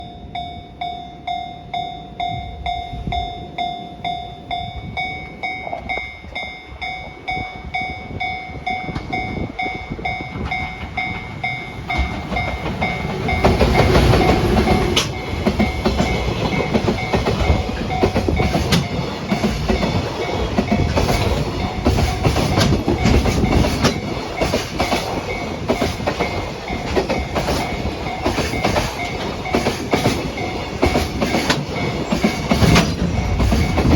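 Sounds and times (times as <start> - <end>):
freight train passing: 0.0 - 33.9
level crossing bell ringing: 0.0 - 33.9
train wheels clattering on rails: 0.0 - 33.9.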